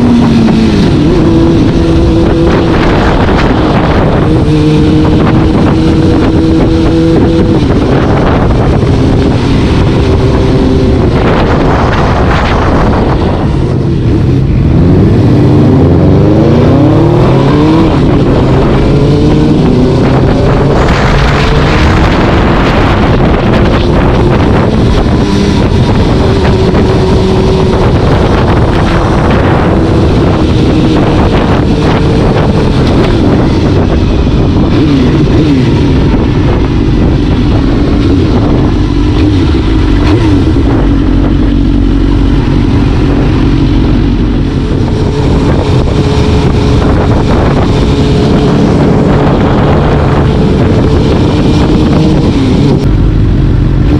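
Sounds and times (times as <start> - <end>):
vehicle engine cruising: 0.0 - 53.9
wind noise on microphone: 0.0 - 53.9.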